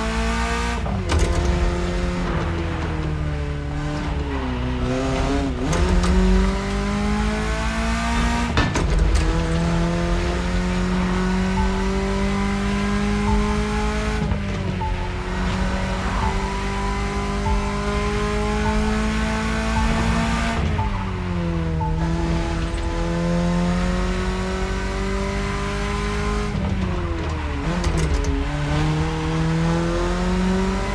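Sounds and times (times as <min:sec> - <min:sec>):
car engine accelerating through gears: 0:00.0 - 0:30.9.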